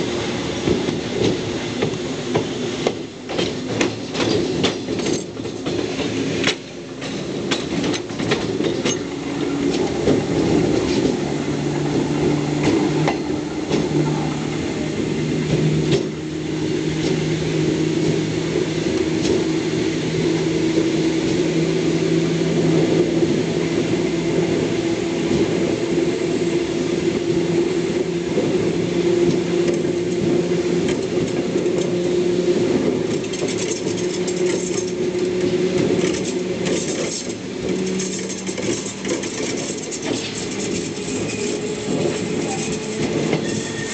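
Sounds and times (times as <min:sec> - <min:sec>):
electric train hum: 0:00.0 - 0:43.9
wheel and rail rumble: 0:00.0 - 0:43.9
wheels clicking over rail joints: 0:00.6 - 0:21.6, 0:26.8 - 0:43.9.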